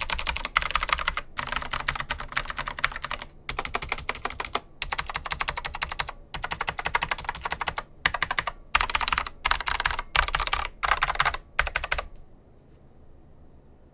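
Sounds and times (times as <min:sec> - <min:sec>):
mechanical keyboard typing: 0:00.0 - 0:12.2.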